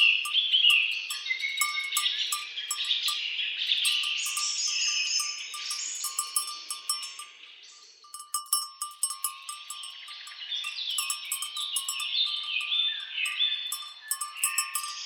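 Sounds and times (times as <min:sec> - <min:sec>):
birds singing: 0:00.0 - 0:15.0
cattle bells clanking: 0:00.0 - 0:15.0.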